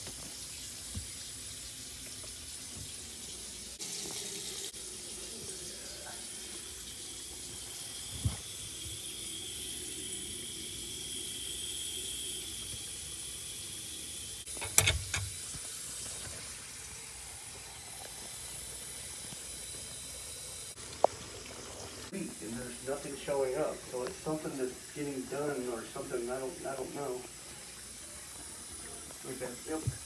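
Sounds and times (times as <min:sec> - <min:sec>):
water running into a sink: 0:00.0 - 0:30.0.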